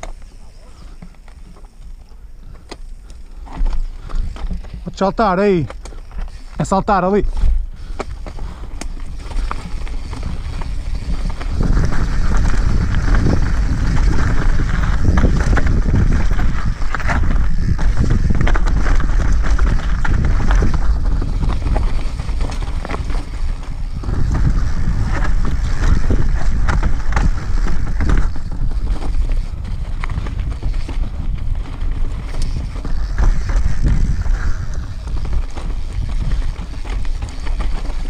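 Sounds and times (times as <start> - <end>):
knocks and rattles from rough ground: 0.0 - 38.0
wind buffeting microphone: 3.3 - 38.0.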